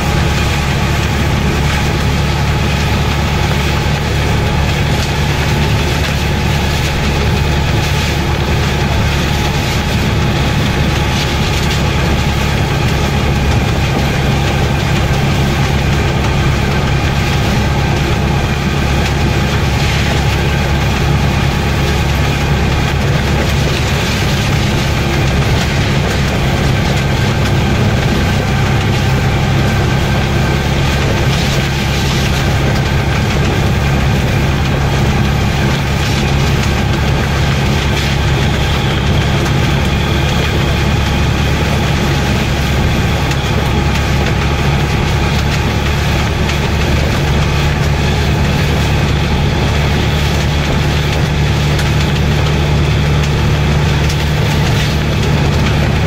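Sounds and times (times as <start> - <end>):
steady rushing noise: 0.0 - 56.0
vehicle engine hum: 0.0 - 56.0.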